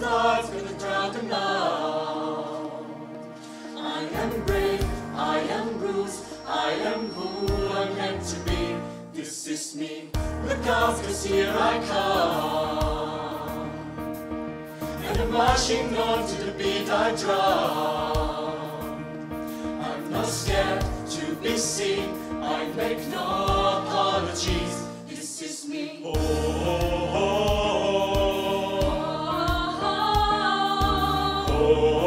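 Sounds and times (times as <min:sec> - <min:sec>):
mixed choir singing in harmony: 0:00.0 - 0:32.0.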